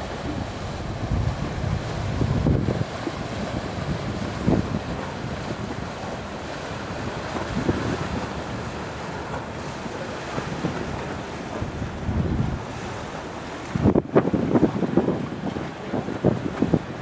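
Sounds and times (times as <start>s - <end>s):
choppy water washing: 0.0s - 17.0s
wind buffeting microphone: 0.0s - 17.0s.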